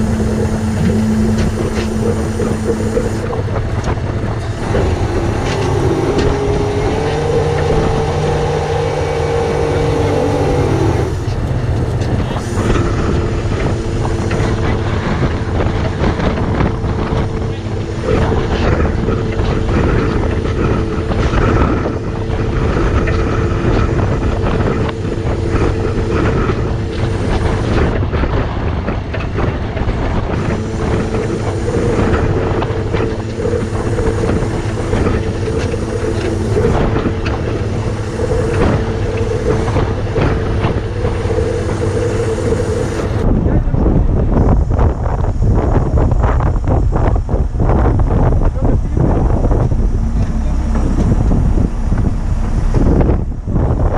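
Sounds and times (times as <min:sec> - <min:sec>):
truck engine whining: 0:00.0 - 0:53.9
wind buffeting microphone: 0:00.0 - 0:53.9.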